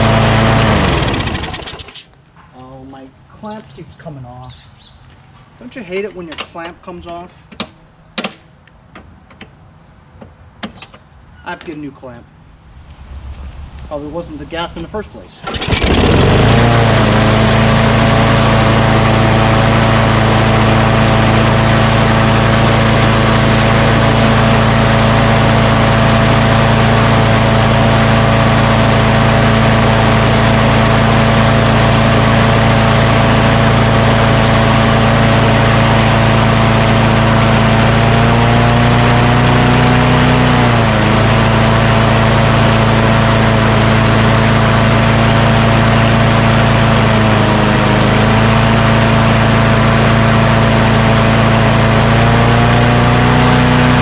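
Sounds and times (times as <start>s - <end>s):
lawn mower engine running: 0.0s - 4.1s, 12.6s - 54.0s.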